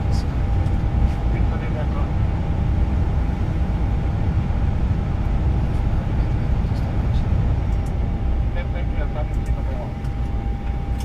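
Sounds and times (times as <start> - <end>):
faint steady hum: 0.0 - 11.0
low machinery rumble: 0.0 - 11.0.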